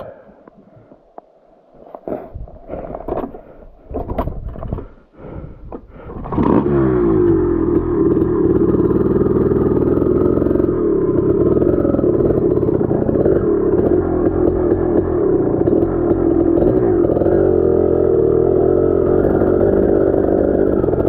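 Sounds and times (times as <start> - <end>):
dirt bike engine: 2.1 - 21.0.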